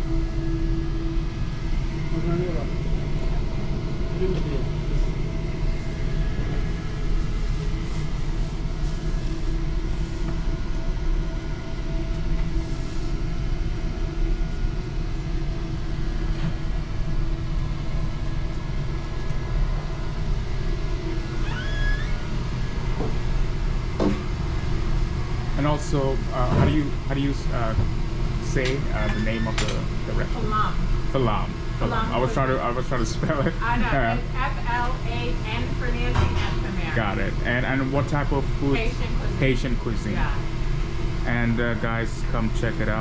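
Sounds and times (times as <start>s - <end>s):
low machinery hum: 0.0s - 43.0s.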